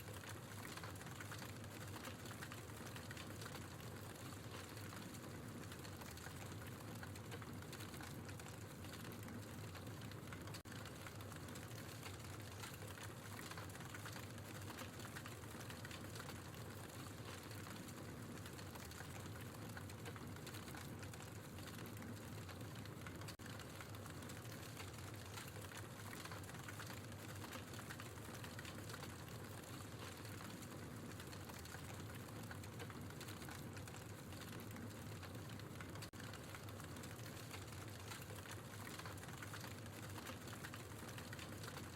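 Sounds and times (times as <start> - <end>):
logs burning with crackles: 0.0 - 41.9.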